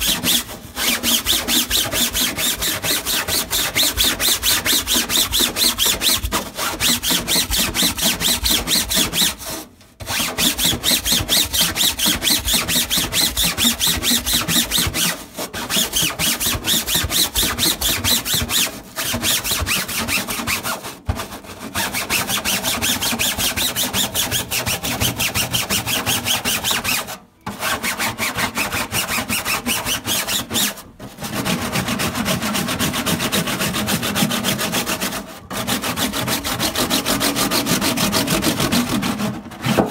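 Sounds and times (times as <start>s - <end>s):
filter being scrubbed: 0.0s - 39.9s.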